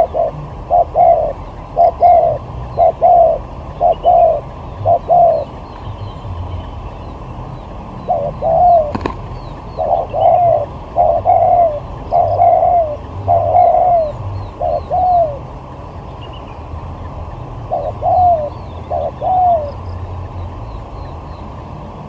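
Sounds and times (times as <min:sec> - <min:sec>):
dove cooing: 0:00.0 - 0:05.9, 0:08.0 - 0:15.6, 0:17.1 - 0:21.7
small birds chirping: 0:00.0 - 0:22.0.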